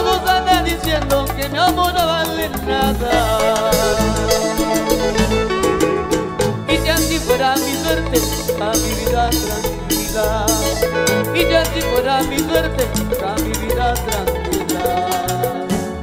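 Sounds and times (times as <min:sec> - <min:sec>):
live cumbia band playing: 0:00.0 - 0:16.0.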